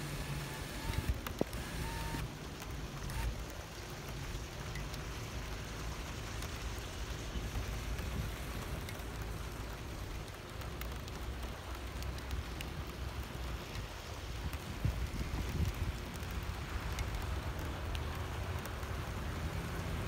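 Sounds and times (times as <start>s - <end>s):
rain on wet pavement: 0.0s - 20.0s.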